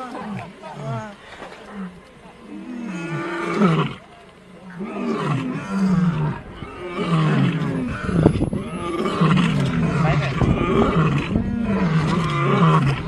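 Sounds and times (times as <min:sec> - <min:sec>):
lion roaring: 0:00.0 - 0:04.0, 0:04.7 - 0:13.0.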